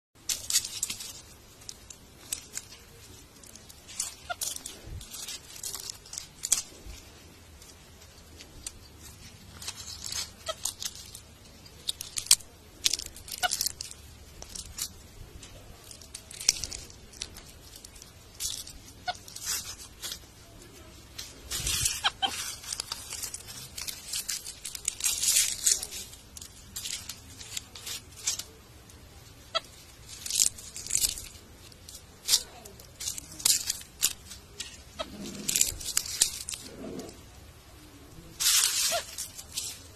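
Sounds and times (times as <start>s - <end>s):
dry leaves crunching in hands: 0.2s - 39.9s.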